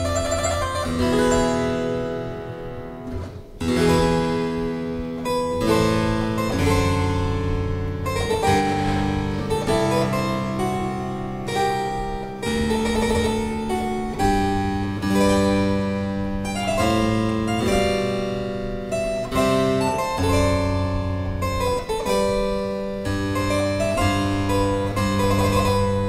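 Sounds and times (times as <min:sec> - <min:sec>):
harpsichord chords: 0:00.0 - 0:26.0.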